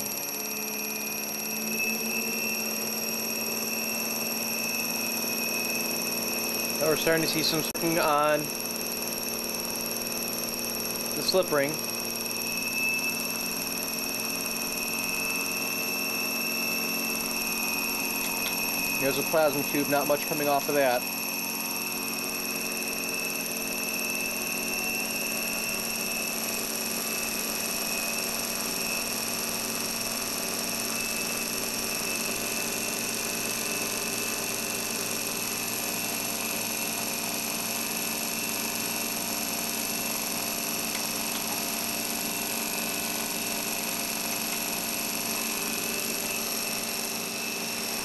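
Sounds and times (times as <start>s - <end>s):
converter running whine: 0.0s - 48.0s.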